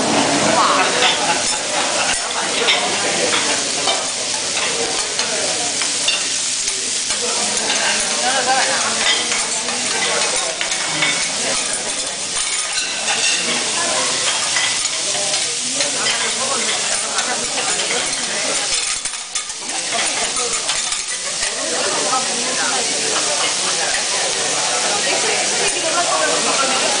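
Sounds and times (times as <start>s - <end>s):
food sizzling on griddle: 0.0s - 27.0s.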